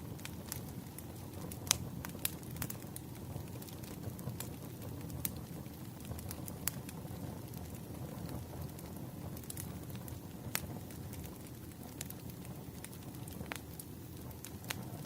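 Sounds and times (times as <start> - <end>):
burning logs popping: 0.0 - 15.0
wood fire crackling: 0.0 - 15.0.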